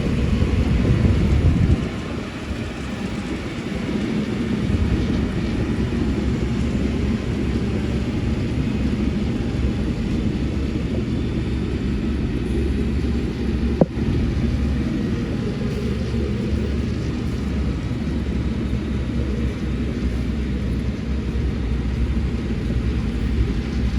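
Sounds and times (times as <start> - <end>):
diesel construction machinery running: 0.0 - 23.9.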